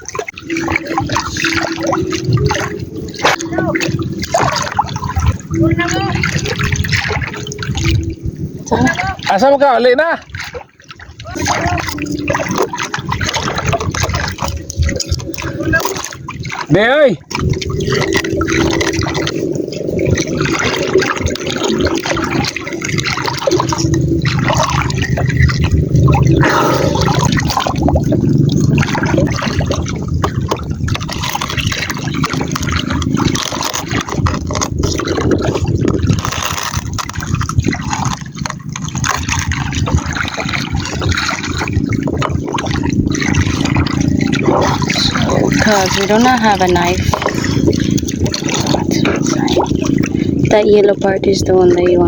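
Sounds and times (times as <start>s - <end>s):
seawater sloshing around boat: 0.0s - 52.0s.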